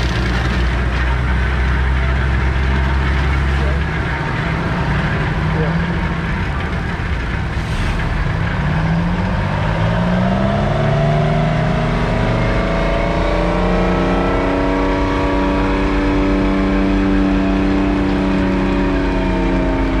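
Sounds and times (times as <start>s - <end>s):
diesel truck engine revving: 0.0s - 20.0s.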